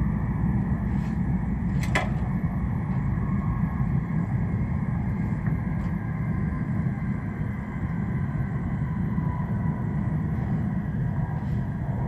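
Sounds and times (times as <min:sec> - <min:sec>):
faint high hum: 0:00.0 - 0:12.0
train low rumble: 0:00.0 - 0:12.0.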